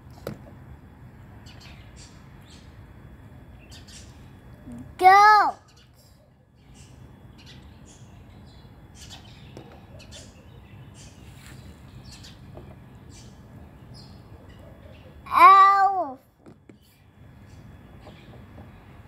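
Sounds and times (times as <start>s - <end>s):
steady low background noise: 0.0s - 19.0s.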